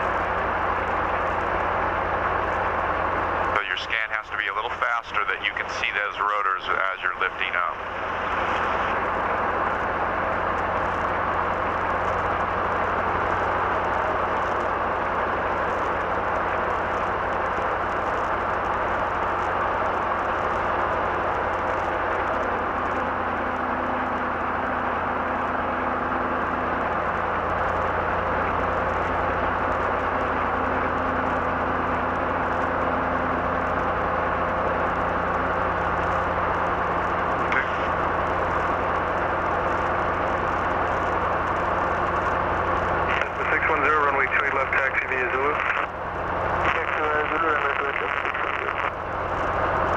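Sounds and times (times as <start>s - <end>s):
helicopter engine and rotors drone: 0.0s - 49.9s.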